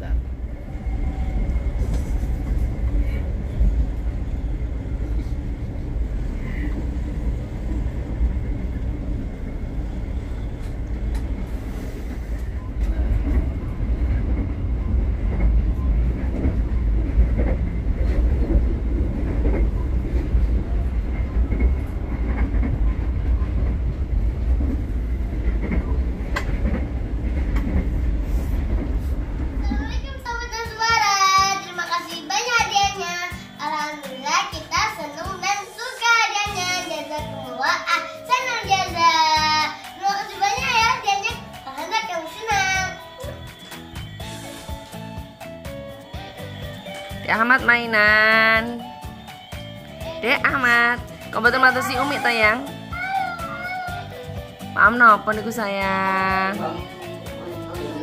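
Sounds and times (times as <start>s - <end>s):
train rumbling on track: 0.0s - 33.8s, 34.4s - 58.0s.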